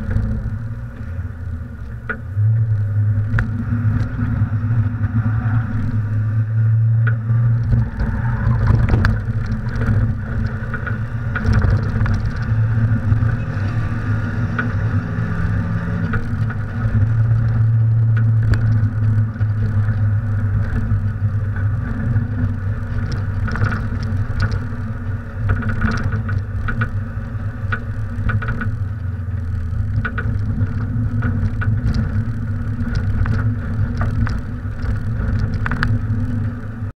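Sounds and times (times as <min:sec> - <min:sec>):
car engine running: 0:00.0 - 0:36.9
wind noise: 0:00.0 - 0:36.9
road noise: 0:00.0 - 0:37.0.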